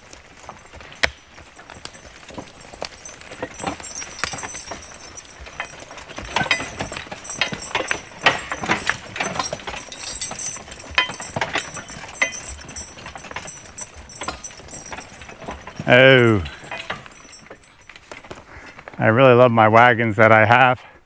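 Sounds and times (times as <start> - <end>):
horse hooves clopping: 0.0 - 20.5.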